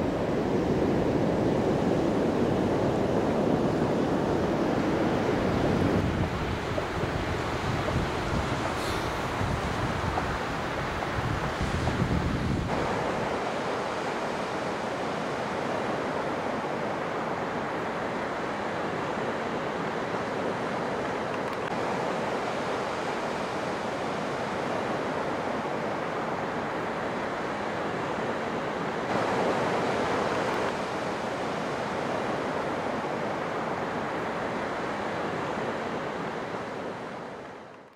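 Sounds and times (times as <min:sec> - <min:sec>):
ocean surf on a beach: 0:00.0 - 0:37.9.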